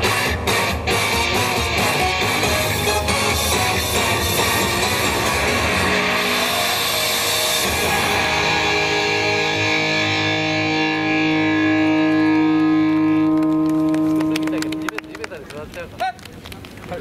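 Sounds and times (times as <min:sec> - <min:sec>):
dance music with distorted guitar: 0:00.0 - 0:14.8.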